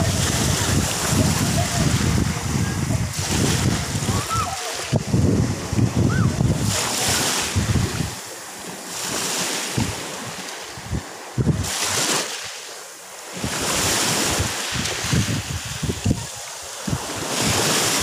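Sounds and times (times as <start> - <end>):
wind buffeting microphone: 0.0 - 8.3, 9.2 - 12.2, 13.3 - 18.0
waves washing on pebble beach: 0.0 - 18.0.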